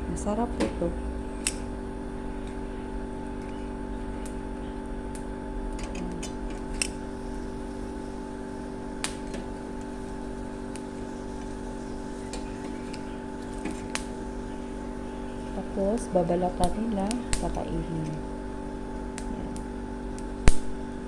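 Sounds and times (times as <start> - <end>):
chestnuts crackling over fire: 0.0 - 21.0
steady mechanical hum: 0.0 - 21.0.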